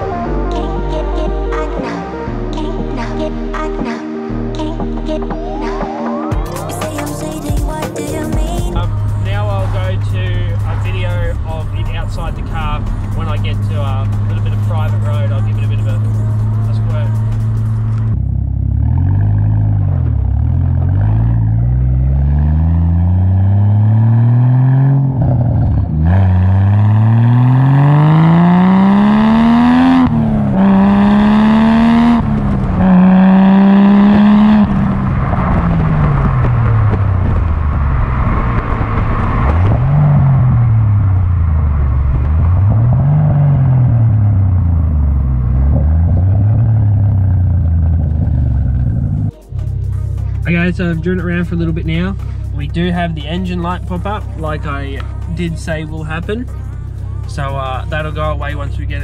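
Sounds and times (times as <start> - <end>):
car engine accelerating hard: 8.4 - 59.0.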